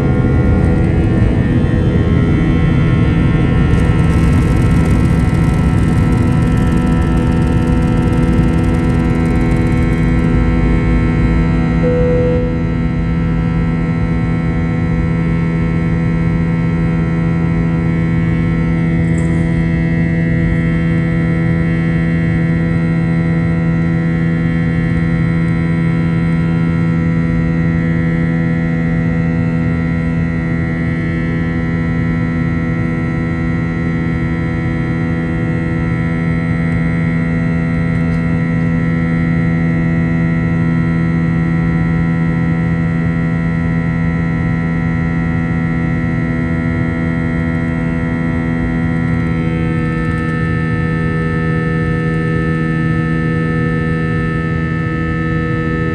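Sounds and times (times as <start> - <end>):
airliner cabin engine drone: 0.0 - 55.9.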